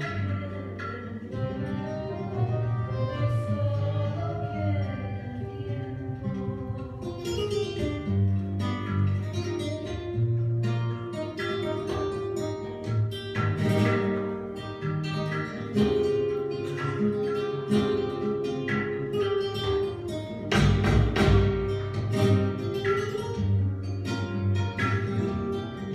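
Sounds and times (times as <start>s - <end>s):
tango on acoustic guitar: 0.0s - 25.9s.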